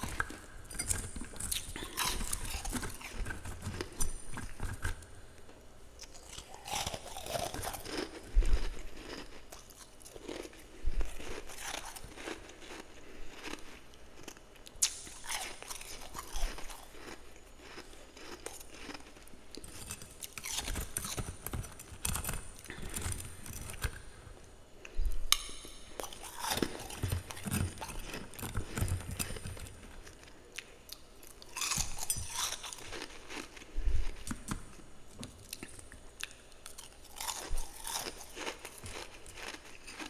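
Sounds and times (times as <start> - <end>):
person chewing frost: 0.0 - 5.0, 6.0 - 24.2, 24.8 - 34.8, 35.4 - 40.0.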